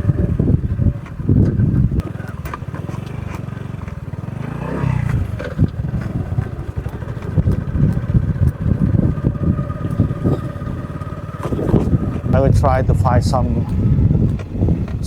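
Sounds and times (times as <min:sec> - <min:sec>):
small motorbike engine running: 0:00.0 - 0:15.0.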